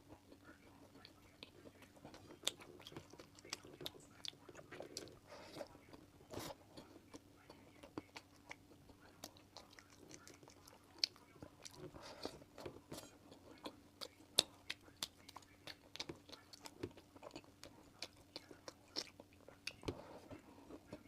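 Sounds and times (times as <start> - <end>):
chewing and crunching: 0.0 - 21.0.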